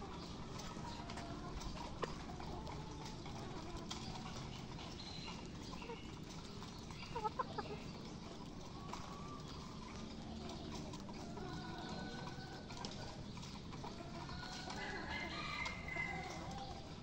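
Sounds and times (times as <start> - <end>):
chickens clucking softly: 0.0 - 17.0.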